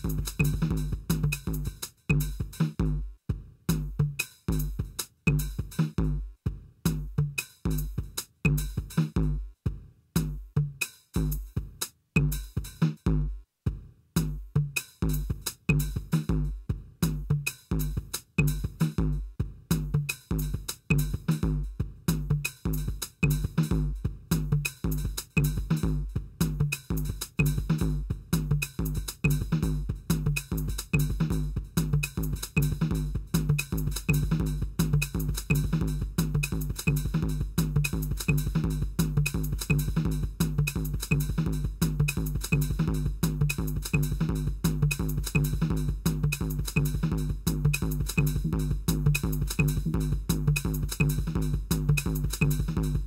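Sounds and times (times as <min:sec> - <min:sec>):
drum machine electronic beat: 0:00.0 - 0:53.0.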